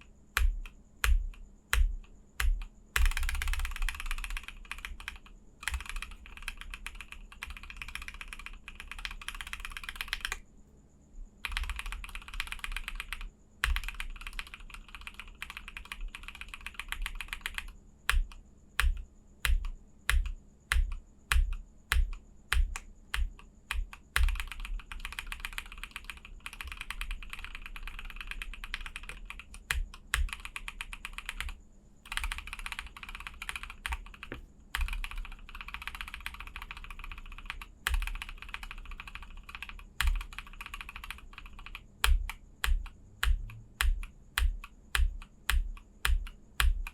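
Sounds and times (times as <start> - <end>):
mechanical keyboard typing: 0.0 - 10.4, 11.4 - 46.9.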